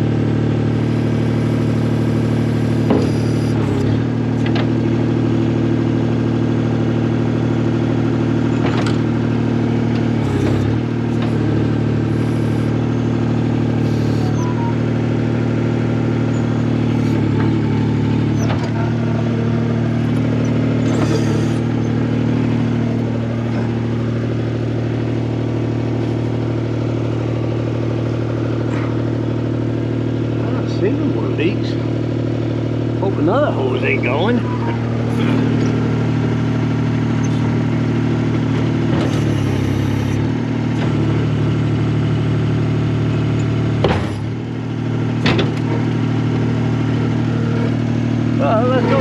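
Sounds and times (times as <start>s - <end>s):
skid steer engine idling: 0.0s - 49.0s.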